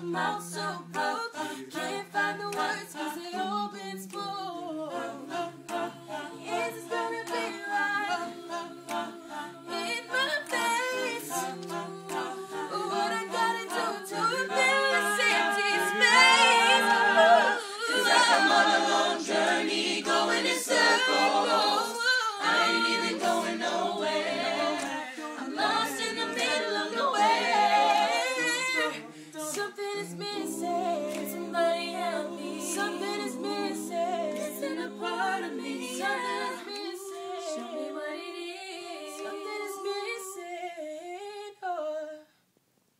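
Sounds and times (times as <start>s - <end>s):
a cappella group singing: 0.0s - 42.4s.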